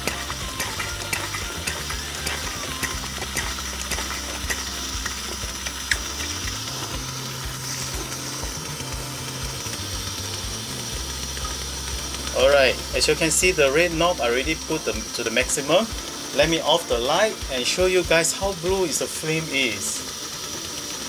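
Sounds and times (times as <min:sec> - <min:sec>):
stove burner hissing: 0:00.0 - 0:21.0.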